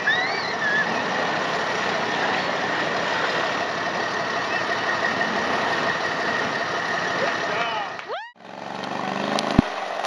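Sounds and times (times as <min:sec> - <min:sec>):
atv engines running: 0:00.0 - 0:10.0.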